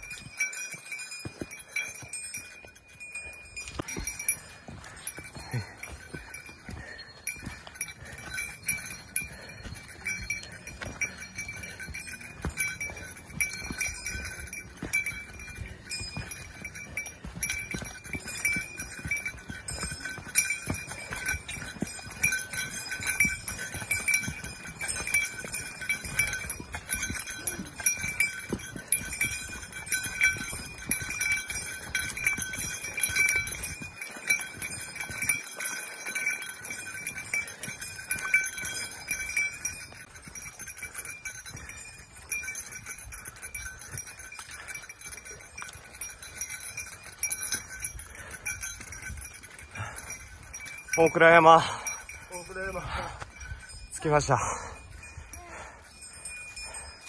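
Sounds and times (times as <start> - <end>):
bell jingling: 0.0 - 57.0
footsteps on dirt trail: 0.0 - 57.0.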